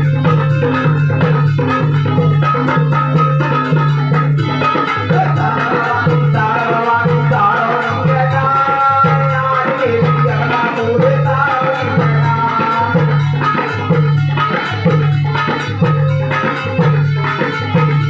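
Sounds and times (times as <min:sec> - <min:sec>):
devotional music with percussion: 0:00.0 - 0:18.0.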